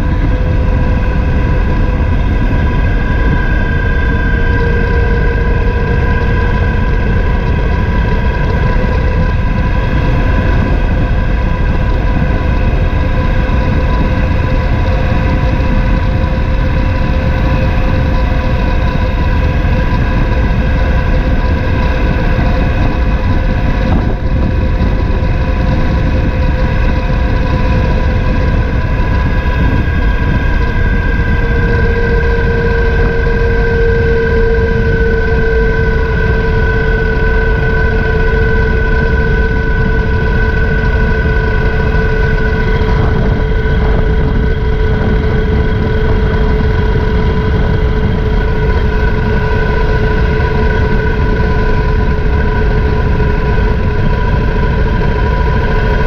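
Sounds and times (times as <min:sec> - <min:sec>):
motorcycle engine humming: 0:00.0 - 0:56.0
wind rush: 0:00.0 - 0:56.0.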